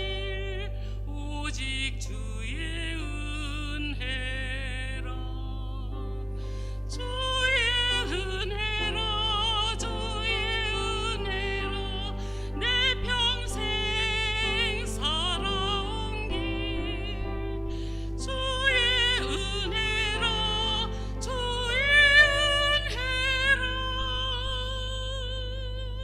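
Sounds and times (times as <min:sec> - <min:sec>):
woman singing a hymn: 0:00.0 - 0:26.0.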